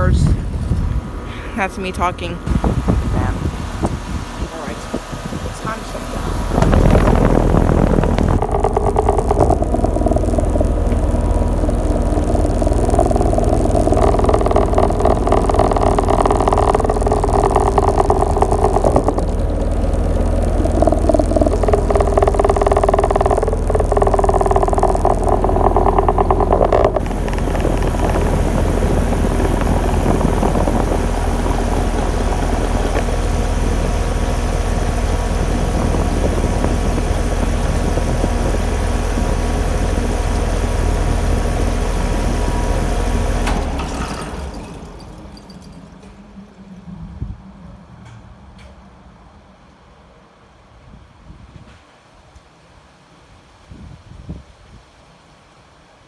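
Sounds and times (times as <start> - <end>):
air conditioner unit humming: 0.0 - 47.4.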